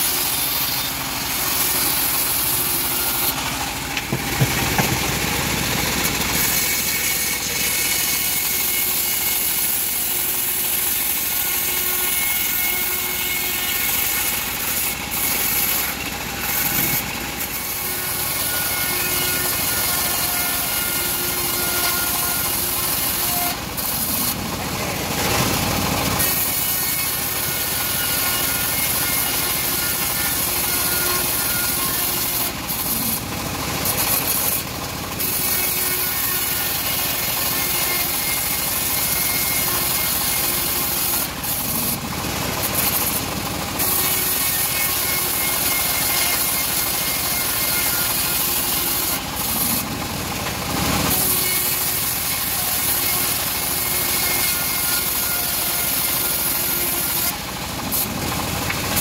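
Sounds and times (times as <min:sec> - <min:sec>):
bandsaw blade rasping through wood: 0:00.0 - 0:59.0
motor running: 0:00.0 - 0:59.0.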